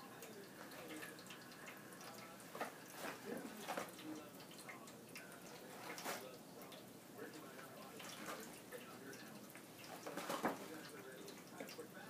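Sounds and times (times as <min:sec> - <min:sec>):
water fountain trickling: 0:00.0 - 0:12.0.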